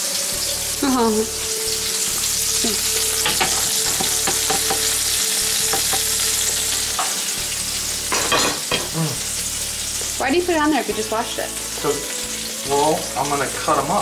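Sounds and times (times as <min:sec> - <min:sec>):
meat sizzling in fat: 0:00.0 - 0:14.0.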